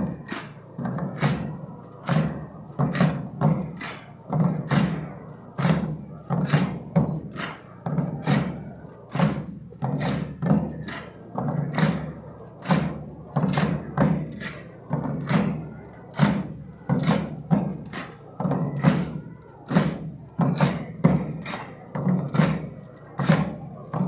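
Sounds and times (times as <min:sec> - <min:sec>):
marching drum beating: 0:00.0 - 0:24.0.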